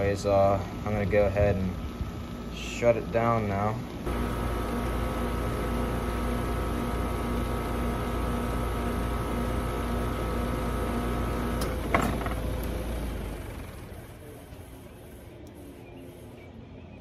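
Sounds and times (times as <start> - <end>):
compressor humming: 0.0 - 16.6
fan running: 0.0 - 16.7.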